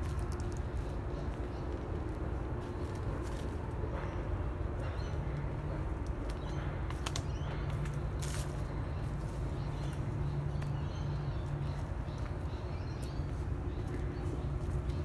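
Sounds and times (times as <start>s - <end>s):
footsteps on dry leaf litter: 0.0s - 4.3s, 5.3s - 15.0s.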